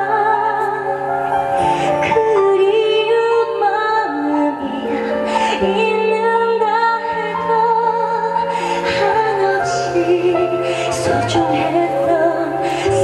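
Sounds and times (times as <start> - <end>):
woman singing: 0.0 - 13.0.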